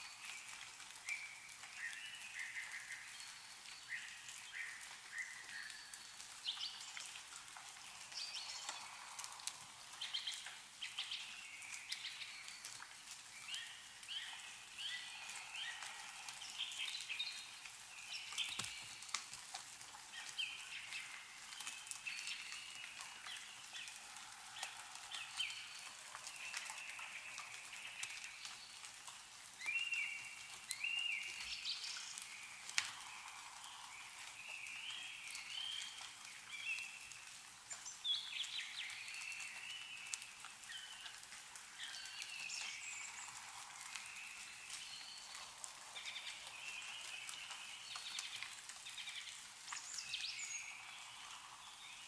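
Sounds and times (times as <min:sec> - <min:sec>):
meltwater dripping: 0:00.0 - 0:52.0
small birds chirping: 0:00.0 - 0:52.0.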